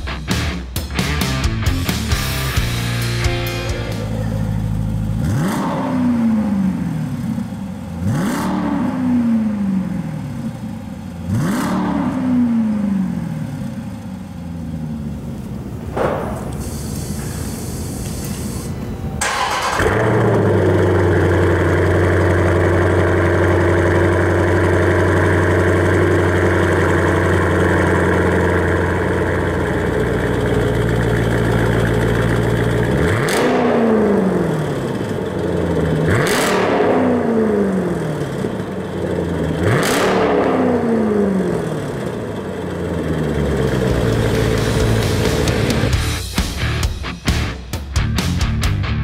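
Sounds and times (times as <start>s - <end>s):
car engine starting and idling: 0.0s - 49.0s
engine throttle blips: 2.1s - 46.4s.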